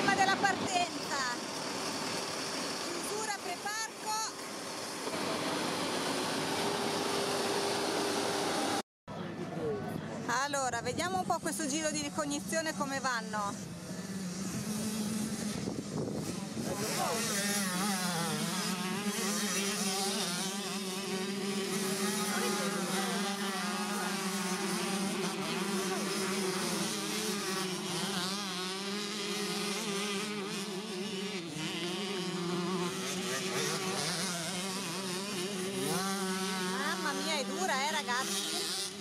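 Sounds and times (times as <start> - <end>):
motorbike engines buzzing and revving: 0.0 - 39.0.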